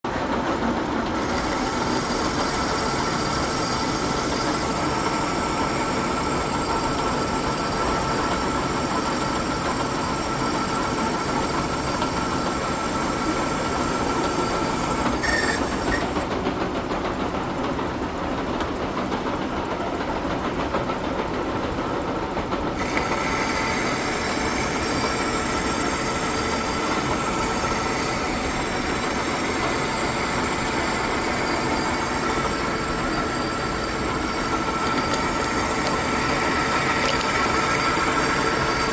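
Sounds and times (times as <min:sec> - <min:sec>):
high machine whine: 0:00.1 - 0:16.4, 0:22.7 - 0:38.9
metal lathe machining: 0:00.1 - 0:38.9.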